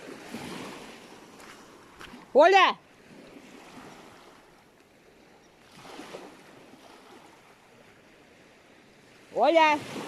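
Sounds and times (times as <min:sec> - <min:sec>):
sea surf washing on shore: 0:00.0 - 0:10.0
wind: 0:00.0 - 0:10.0.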